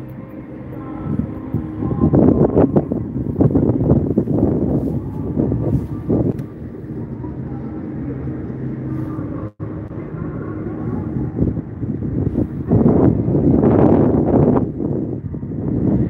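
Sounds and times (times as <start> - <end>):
low vehicle engine hum: 0.0 - 16.0
wind rumbling on microphone: 0.0 - 16.0.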